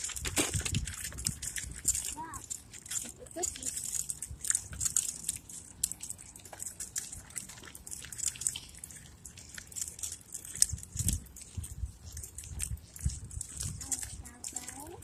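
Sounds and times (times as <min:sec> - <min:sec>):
wind rumble on microphone: 0:00.0 - 0:05.4, 0:07.0 - 0:15.0
footsteps on gritty asphalt: 0:00.0 - 0:15.0.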